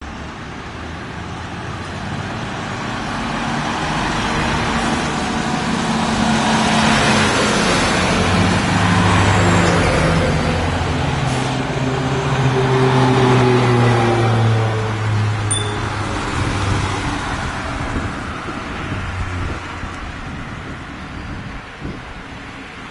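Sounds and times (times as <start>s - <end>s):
tyres on road: 0.0s - 22.9s
diesel trucks driving past: 0.1s - 21.2s.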